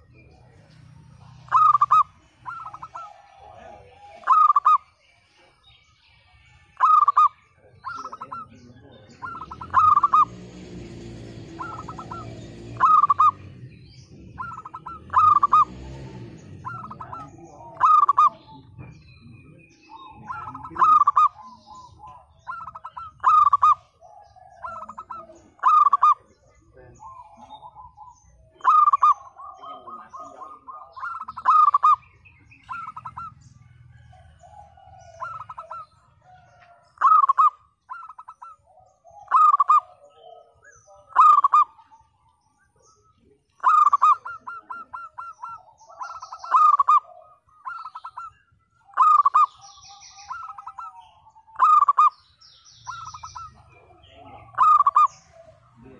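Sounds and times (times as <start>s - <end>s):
dove cooing: 0.0s - 5.0s, 6.8s - 55.9s.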